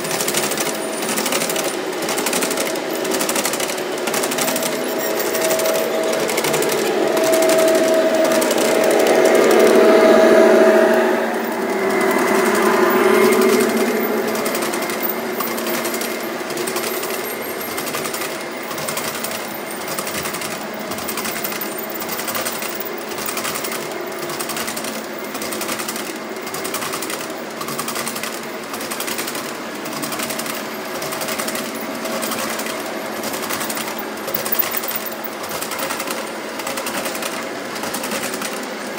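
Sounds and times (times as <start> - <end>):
humming tone: 0.0 - 35.4
train wheels clicking over rail joints: 0.0 - 38.9.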